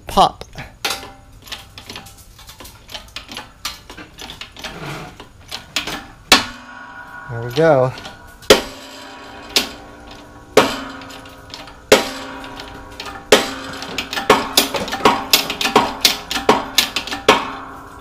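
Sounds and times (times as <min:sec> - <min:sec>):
shop press metallic clanks: 0:00.8 - 0:18.0.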